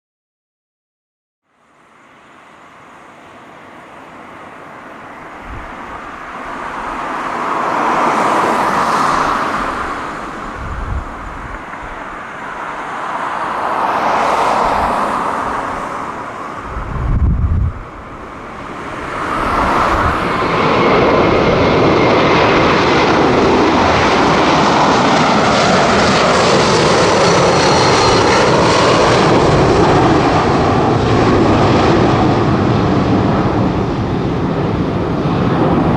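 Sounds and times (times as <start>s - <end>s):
jet engines at takeoff thrust: 1.6s - 35.9s.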